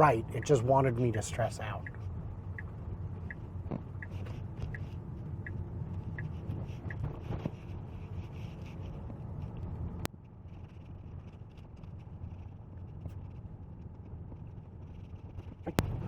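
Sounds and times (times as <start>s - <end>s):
turn signal ticking: 0.0s - 10.2s, 11.9s - 16.0s
road and tyre rumble: 0.0s - 16.0s.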